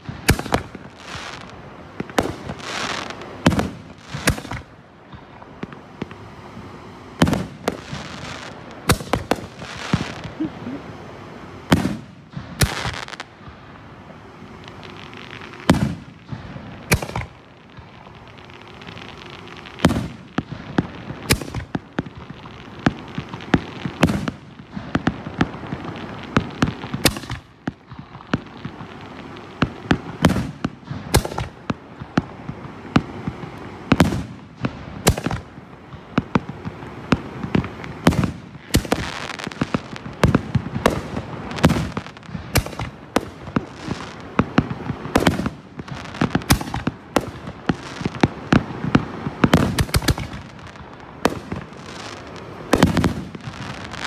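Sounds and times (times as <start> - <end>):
firework bangs and cracks: 0.0 - 54.0.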